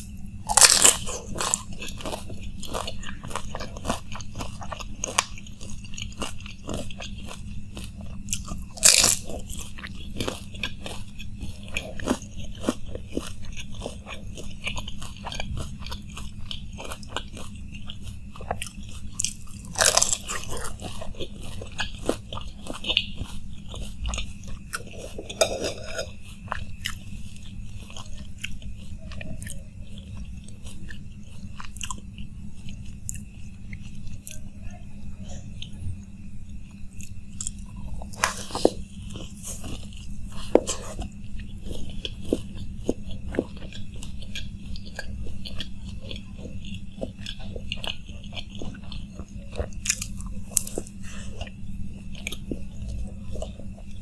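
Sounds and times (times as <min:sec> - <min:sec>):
person chewing crunchy snacks: 0:00.0 - 0:34.5, 0:35.3 - 0:54.0.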